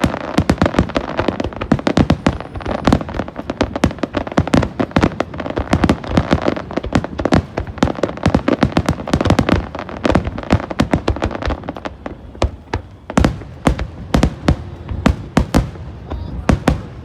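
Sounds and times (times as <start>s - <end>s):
firework crackle: 0.0s - 17.0s.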